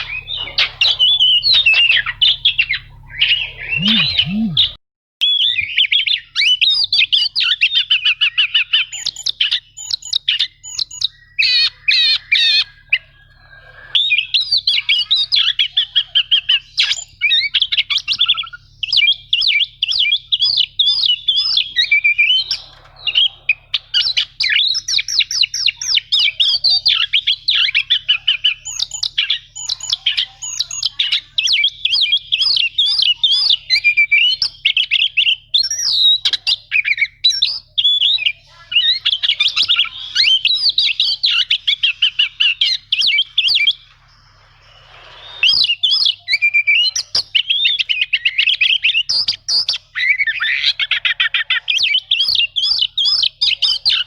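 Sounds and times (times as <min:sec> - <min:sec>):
bird singing fast varied song: 0:00.0 - 0:54.0.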